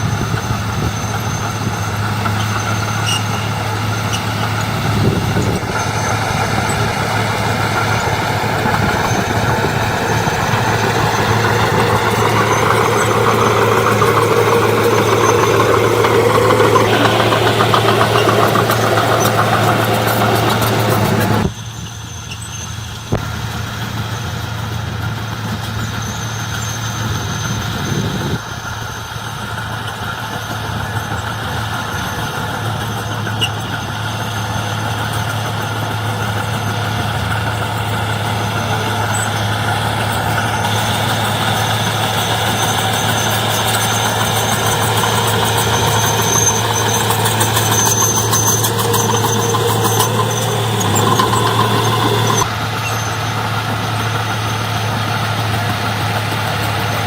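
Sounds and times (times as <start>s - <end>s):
heavy machinery diesel engines humming: 0.0s - 57.0s.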